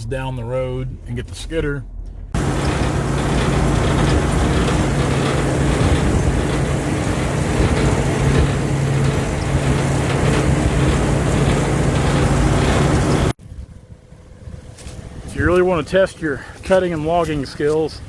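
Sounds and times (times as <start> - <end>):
road and wind noise: 0.0 - 18.0
vehicle engine humming: 0.0 - 18.0.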